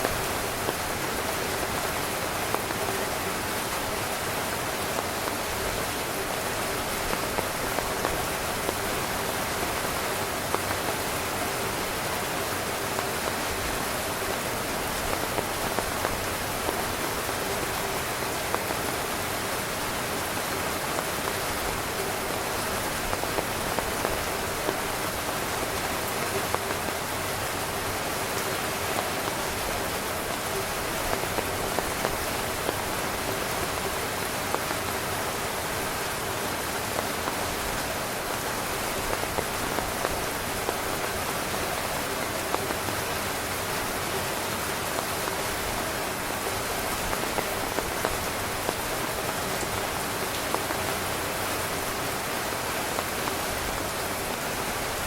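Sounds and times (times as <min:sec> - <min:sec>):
heavy rain on tent: 0:00.0 - 0:55.0.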